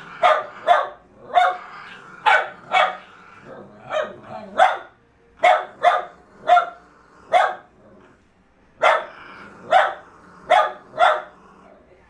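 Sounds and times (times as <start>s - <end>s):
dog barking: 0.0s - 3.2s, 3.8s - 7.7s, 8.8s - 11.4s.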